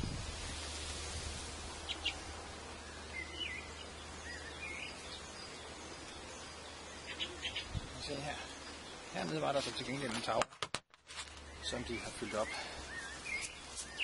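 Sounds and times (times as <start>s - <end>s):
birds chirping: 0.1s - 10.4s, 11.1s - 14.0s.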